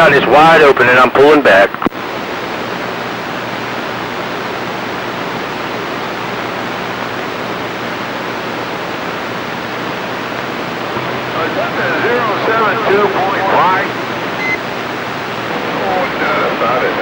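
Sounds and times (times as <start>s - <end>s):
faint low hum: 0.0s - 17.0s
radio static hiss: 0.0s - 17.0s.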